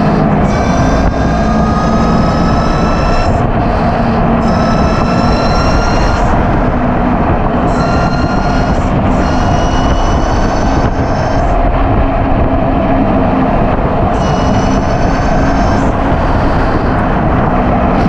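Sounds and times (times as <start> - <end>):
electric motor whining: 0.0 - 18.0
wind noise: 0.0 - 18.0.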